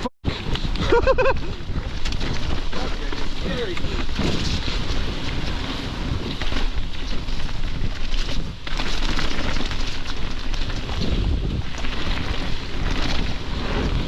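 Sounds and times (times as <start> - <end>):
wind rushing over microphone: 0.2 - 14.0
bike rattling: 0.3 - 14.0
tyres crackling on wet dirt: 0.3 - 14.0.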